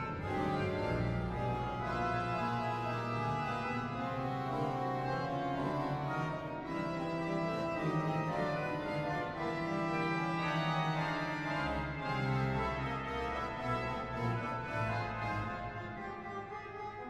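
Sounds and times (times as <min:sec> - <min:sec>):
organ playing held chords: 0:00.0 - 0:17.0.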